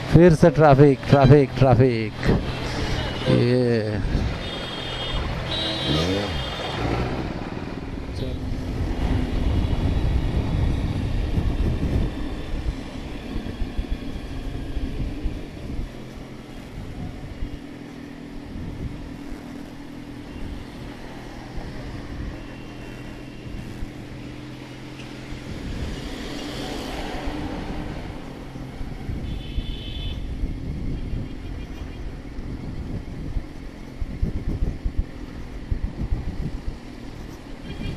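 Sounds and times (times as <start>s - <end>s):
road traffic engines: 0.0s - 37.9s.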